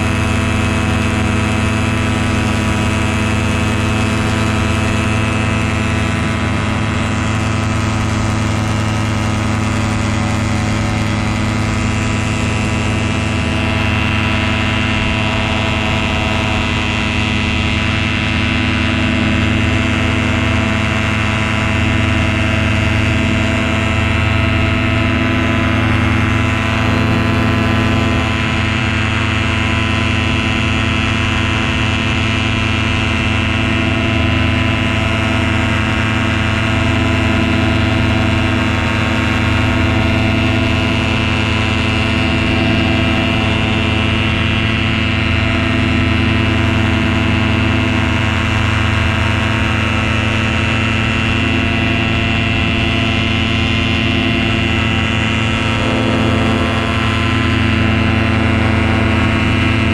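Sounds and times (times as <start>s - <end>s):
paramotor engine and propeller humming: 0.0s - 59.9s.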